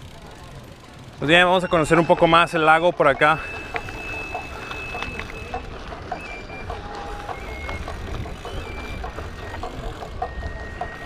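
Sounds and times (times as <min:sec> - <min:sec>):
bike rolling over gravel: 0:00.0 - 0:11.0.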